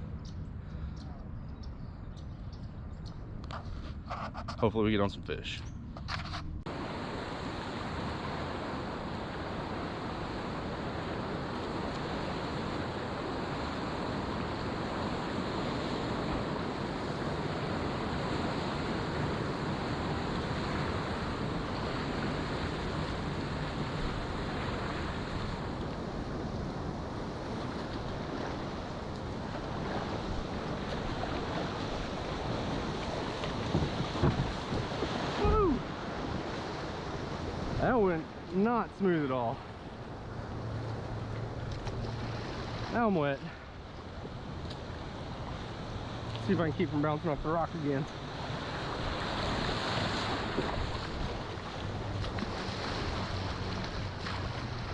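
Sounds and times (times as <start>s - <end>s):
river water rushing: 6.7s - 54.9s.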